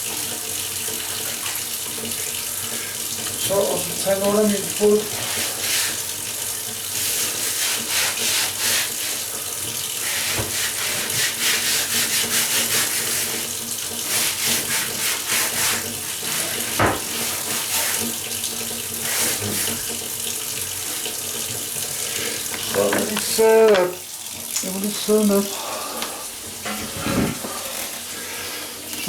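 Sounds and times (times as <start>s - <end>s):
wet sponge scrubbing floor: 2.6s - 23.9s, 24.9s - 29.0s.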